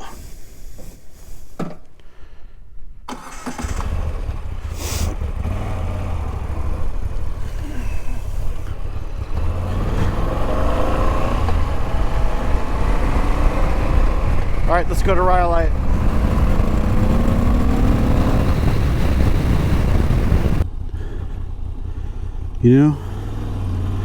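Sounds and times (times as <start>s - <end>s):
motorcycle engine rumbling: 3.1s - 24.0s.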